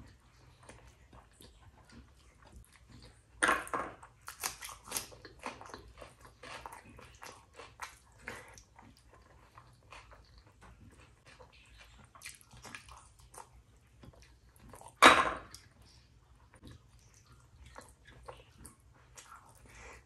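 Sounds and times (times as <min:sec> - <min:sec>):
wet chewing and lip-smacking: 0:00.0 - 0:03.4, 0:04.0 - 0:20.0.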